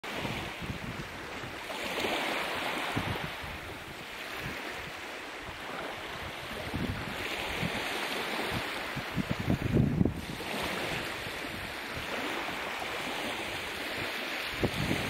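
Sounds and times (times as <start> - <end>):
small waves washing ashore: 0.0 - 15.0
wind rumbling on microphone: 0.0 - 15.0.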